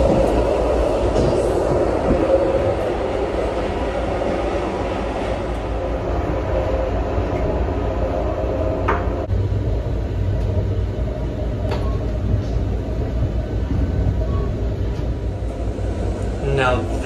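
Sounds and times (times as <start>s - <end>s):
train coach rumbling on track: 0.0s - 17.0s.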